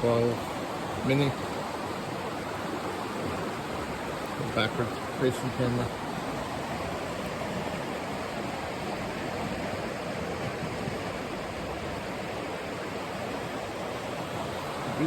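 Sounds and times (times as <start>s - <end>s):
creek rushing over rocks: 0.0s - 15.0s.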